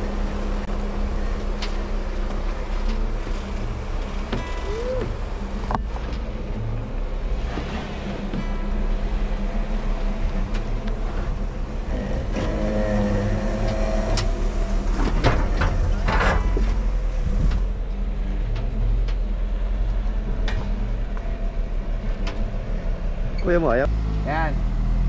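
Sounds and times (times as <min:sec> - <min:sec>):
vehicle engine low rumble: 0:00.0 - 0:25.0.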